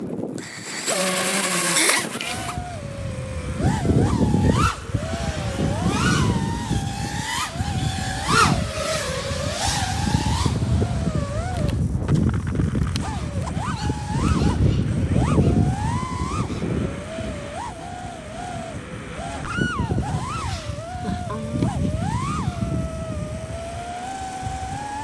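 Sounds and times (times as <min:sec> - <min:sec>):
motorbike engine revving: 0:00.3 - 0:25.0.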